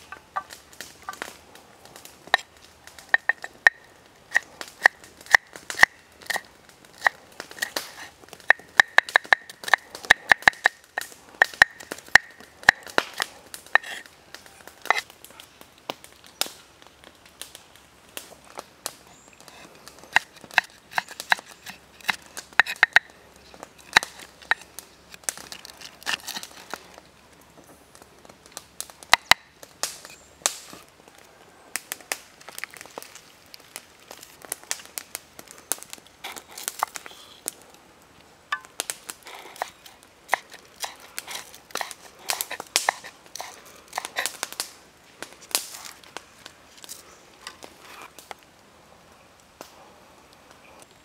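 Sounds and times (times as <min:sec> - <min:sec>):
crinkling and crackling: 0:00.0 - 0:51.0.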